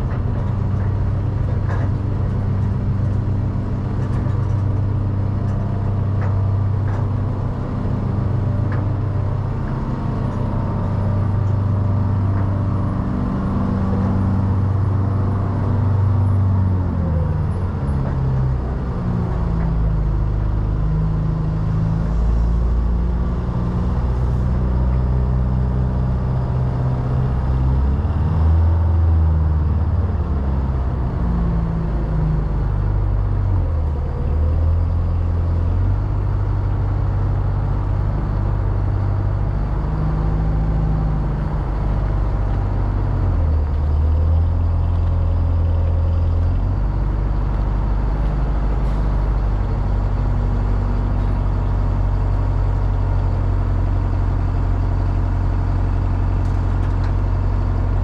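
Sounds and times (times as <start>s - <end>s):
heavy vehicle engine: 0.0s - 58.0s.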